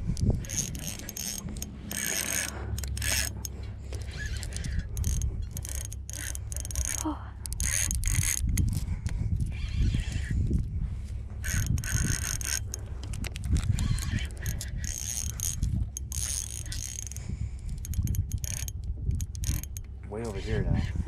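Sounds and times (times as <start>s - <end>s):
fishing reel drag clicking: 0.0s - 10.6s, 11.4s - 20.7s
steady low rumble: 0.0s - 21.0s.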